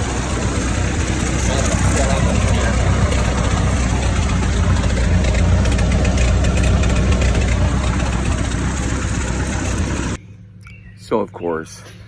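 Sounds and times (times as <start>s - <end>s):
tractor engine rumbling: 0.0s - 10.2s.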